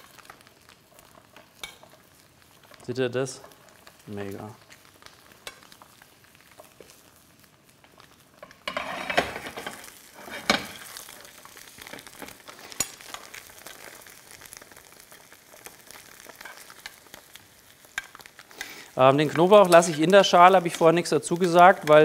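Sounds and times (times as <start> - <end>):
butter sizzling in a pan: 0.0 - 22.0.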